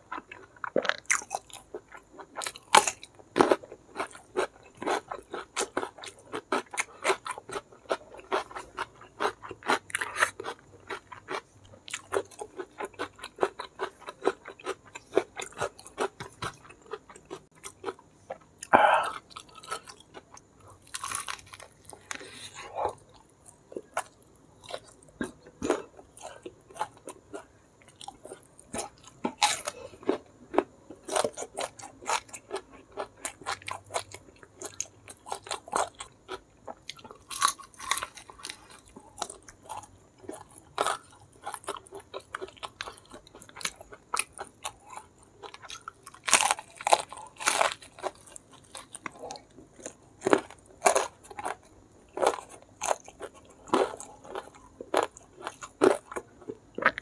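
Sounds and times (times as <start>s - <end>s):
chewing with wet clicks: 0.1s - 22.2s, 23.0s - 57.0s.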